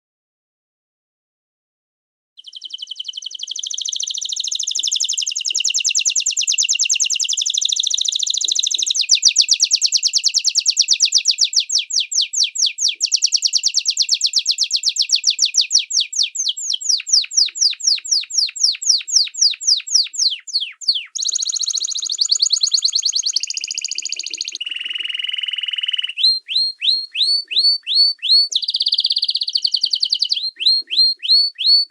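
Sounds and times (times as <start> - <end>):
songbird trilling and chirping: 2.4 - 31.9.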